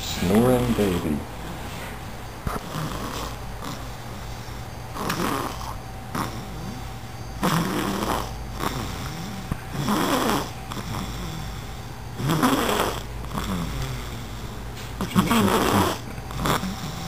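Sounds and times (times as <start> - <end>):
soft breaths: 0.1 - 7.0, 7.7 - 17.0
baby snoring: 2.5 - 17.0.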